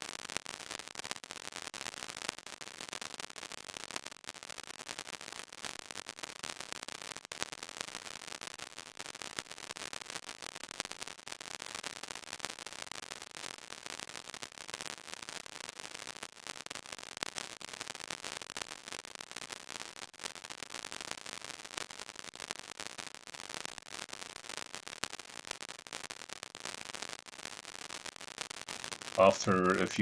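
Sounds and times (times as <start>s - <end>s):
scintillation detector crackling: 0.0s - 30.0s.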